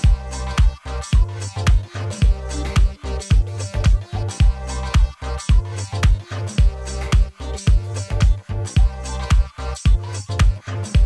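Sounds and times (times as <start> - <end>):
upbeat dance music: 0.0 - 11.0.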